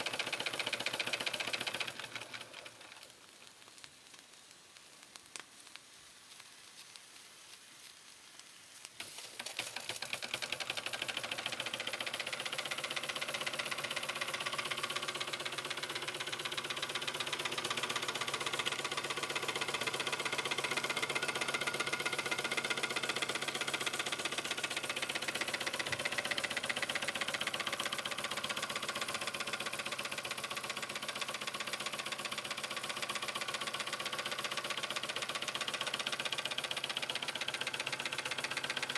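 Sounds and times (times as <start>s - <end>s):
steam engine ticking clatter: 0.0s - 5.8s, 9.0s - 38.9s.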